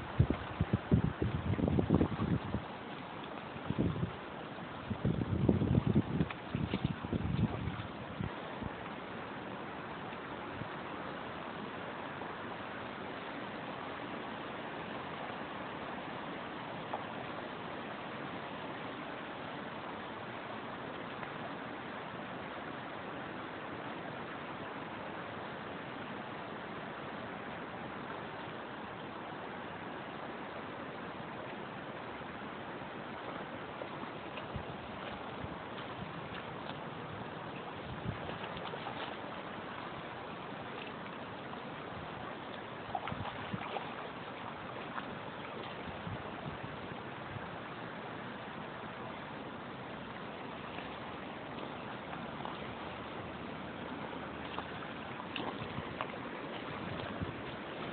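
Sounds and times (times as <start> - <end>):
river current rushing: 0.0 - 57.9.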